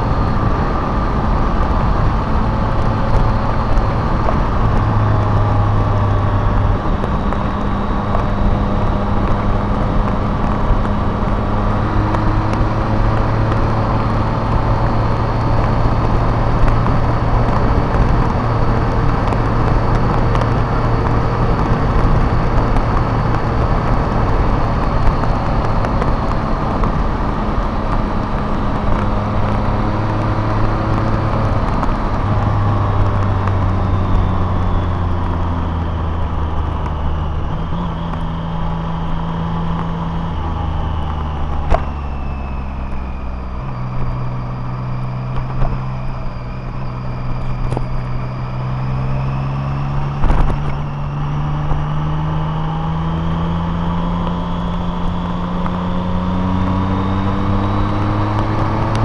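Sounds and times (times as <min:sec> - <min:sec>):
engine drone: 0:00.0 - 0:59.0
tyre and road noise: 0:00.0 - 0:59.0.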